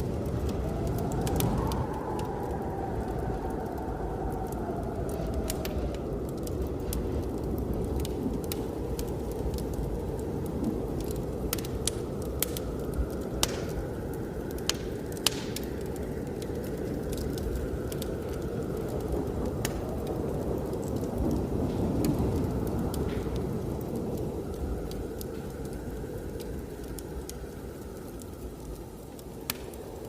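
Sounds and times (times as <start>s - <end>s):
blizzard wind rumbling: 0.0s - 30.0s
wood fire crackling: 0.0s - 30.0s.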